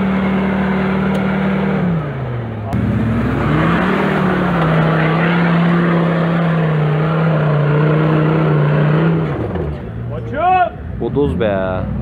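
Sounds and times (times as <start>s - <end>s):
engine revving: 0.0s - 10.2s.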